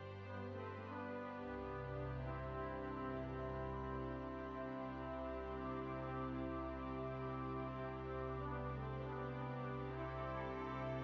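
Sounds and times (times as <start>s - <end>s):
music with long held notes: 0.0s - 11.0s.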